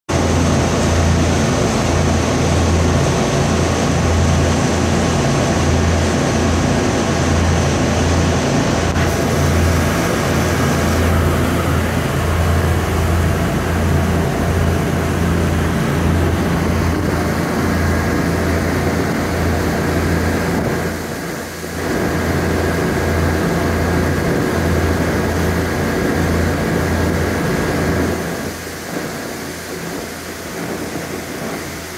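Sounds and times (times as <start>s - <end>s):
boat engines droning: 0.1s - 31.9s
wind and water rushing past hull: 0.1s - 31.9s.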